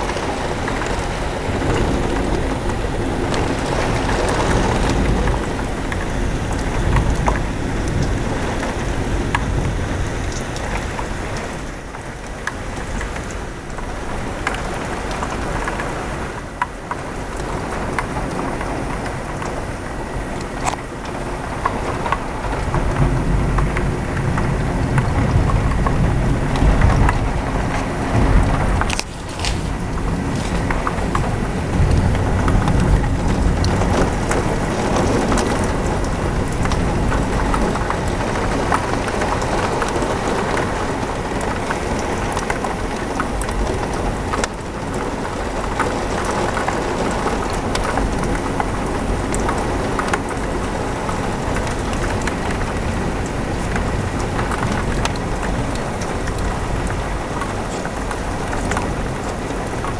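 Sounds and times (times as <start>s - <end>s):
heavy rain: 0.0s - 59.9s
thunder rumble: 0.0s - 59.9s.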